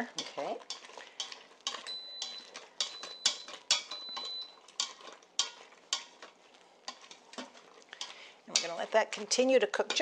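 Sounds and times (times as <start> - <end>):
spoon scraping metal pot: 0.0 - 10.0.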